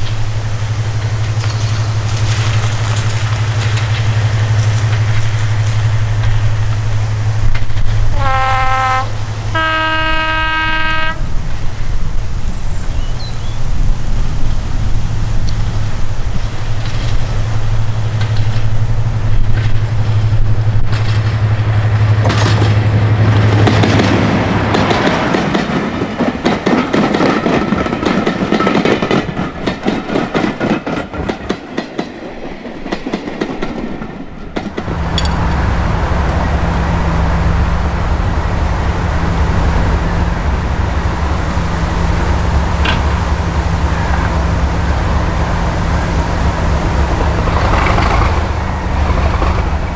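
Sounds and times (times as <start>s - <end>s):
train wheels clattering on rails: 0.0s - 12.3s, 12.9s - 49.9s
diesel locomotive engine: 0.0s - 49.9s.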